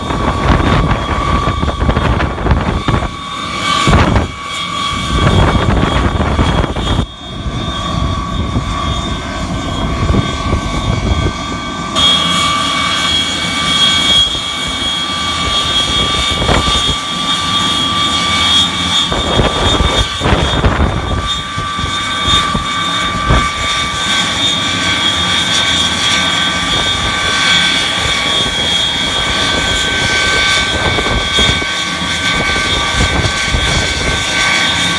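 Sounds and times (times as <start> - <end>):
machine drone with high whine: 0.0 - 34.9
wind buffeting microphone: 0.0 - 34.9.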